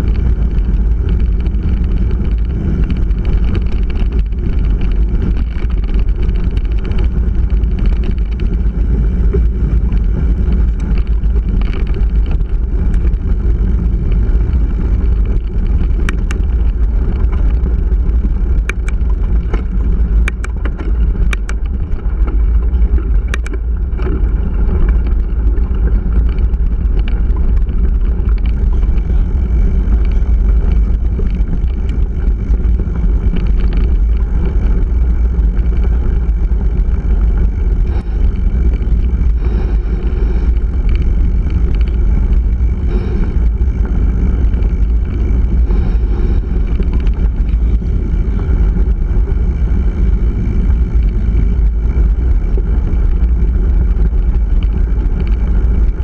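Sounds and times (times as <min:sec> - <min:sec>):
faint bike rattles: 0:00.0 - 0:56.0
wind rumble on microphone: 0:00.0 - 0:56.0.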